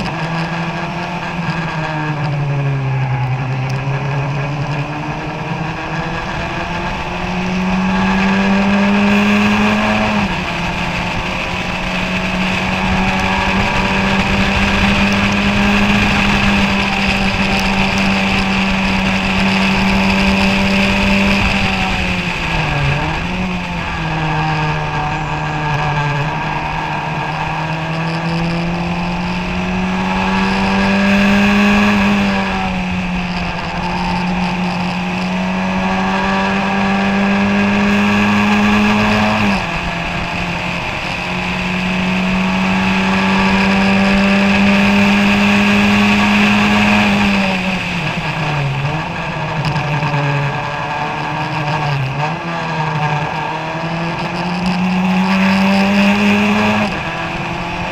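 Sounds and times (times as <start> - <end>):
engine blips on downshifts: 0.0 - 57.9
racing car engine revving: 0.0 - 57.9.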